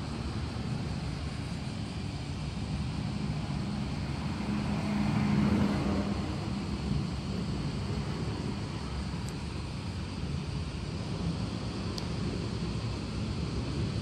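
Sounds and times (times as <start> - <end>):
distant engine hum: 0.0 - 14.0
low outdoor rumble: 0.0 - 14.0.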